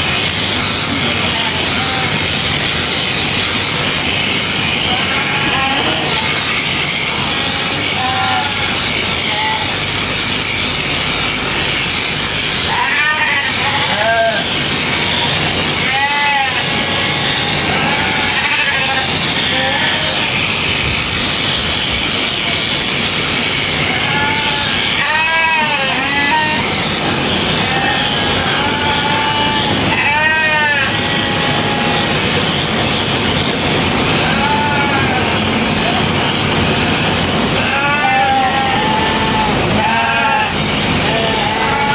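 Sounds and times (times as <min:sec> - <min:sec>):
electric clippers buzzing: 0:00.0 - 0:41.9
sheep bleating: 0:00.5 - 0:02.7, 0:04.7 - 0:32.7, 0:33.4 - 0:41.9.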